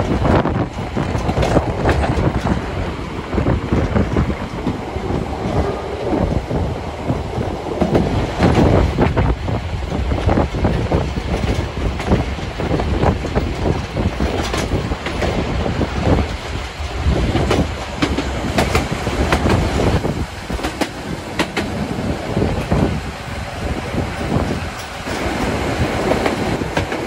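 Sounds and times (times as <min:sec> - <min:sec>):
steam train rumbling: 0:00.0 - 0:27.0
wheels clicking on track: 0:00.0 - 0:27.0.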